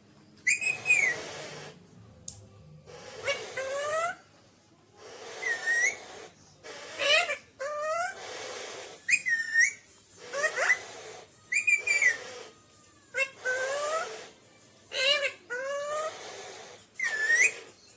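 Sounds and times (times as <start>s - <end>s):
parakeet whistled calls: 0.4s - 1.8s, 2.9s - 4.2s, 5.0s - 17.8s.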